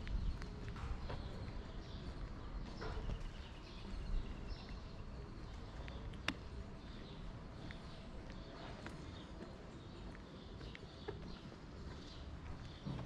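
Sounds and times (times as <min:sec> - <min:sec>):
footstep clicks: 0:00.0 - 0:13.0.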